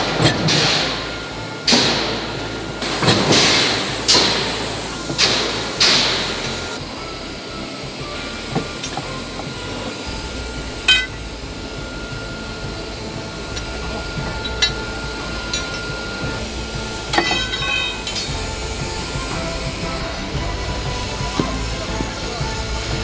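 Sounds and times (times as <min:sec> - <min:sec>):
machinery running with high whine: 0:00.0 - 0:23.0.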